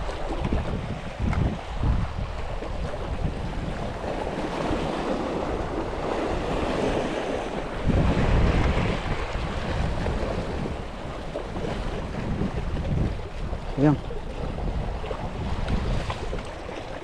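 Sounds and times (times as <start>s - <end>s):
waves breaking on rocky shore: 0.0s - 17.0s
wind buffeting microphone: 0.0s - 17.0s.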